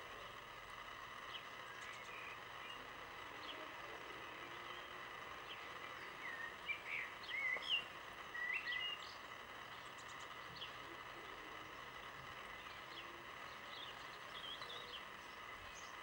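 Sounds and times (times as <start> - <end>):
small bird singing: 0.0 - 16.0
steady outdoor hiss: 0.0 - 16.0.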